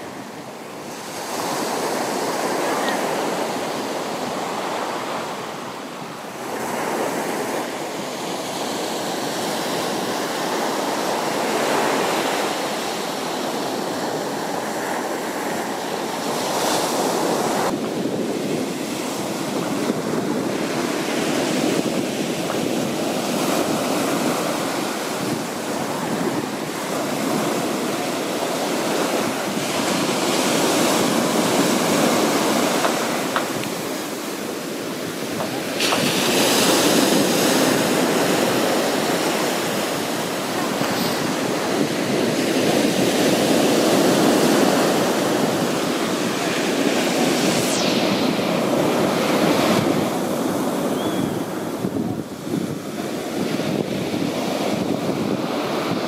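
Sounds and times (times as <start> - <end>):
surf washing up a beach: 0.0 - 56.0.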